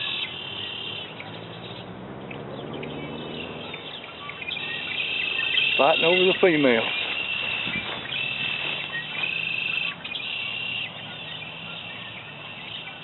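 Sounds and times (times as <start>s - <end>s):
blackbirds singing trilled songs: 0.0s - 13.0s.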